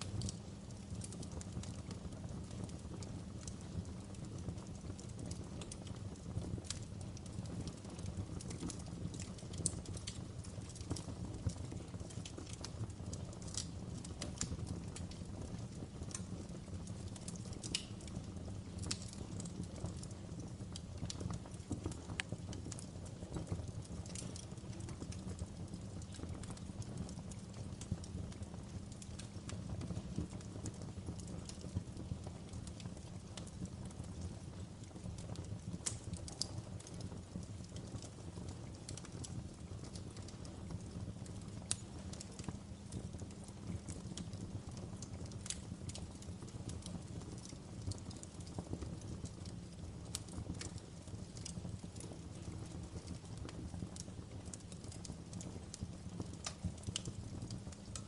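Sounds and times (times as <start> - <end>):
fire popping and snapping: 0.0 - 58.0
logs crackling in a fireplace: 0.0 - 58.0
low rumble of fire: 0.0 - 58.0.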